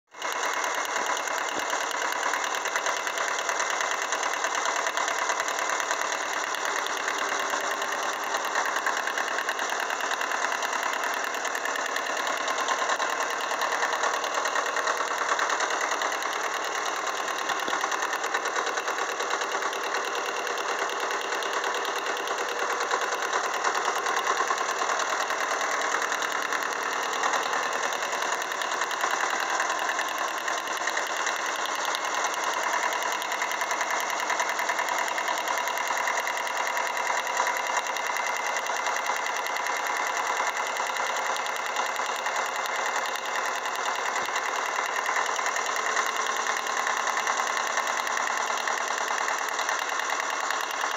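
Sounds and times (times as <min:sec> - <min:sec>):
diesel tractor engine idling: 0:00.2 - 0:50.9.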